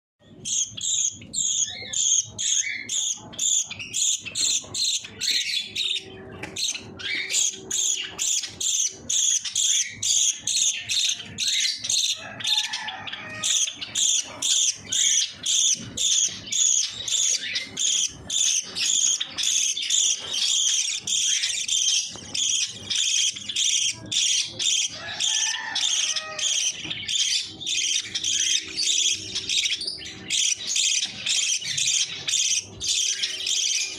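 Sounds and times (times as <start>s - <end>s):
budgie chicks chirping: 0.2s - 33.9s.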